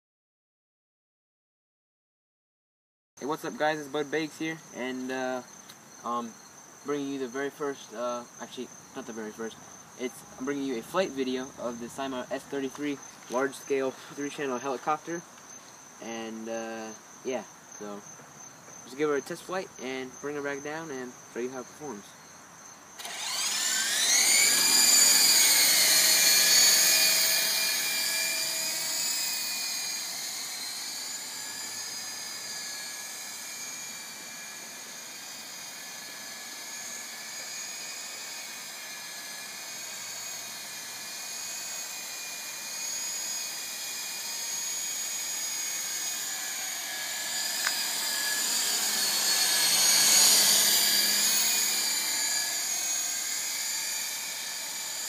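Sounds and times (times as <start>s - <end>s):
rc helicopter rotors whining: 3.2s - 18.0s, 23.0s - 55.0s.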